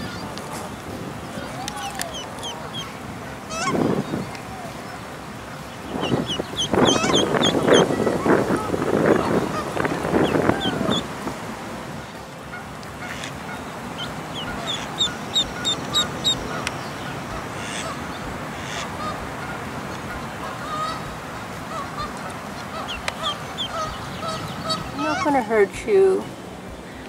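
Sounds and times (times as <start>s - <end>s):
ducklings peeping: 0.0s - 11.4s, 12.0s - 25.7s
outdoor background: 0.0s - 27.0s.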